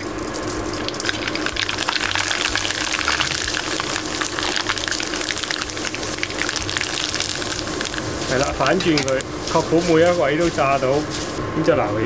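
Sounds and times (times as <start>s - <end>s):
rice noodles sizzling in oil: 0.0s - 12.0s.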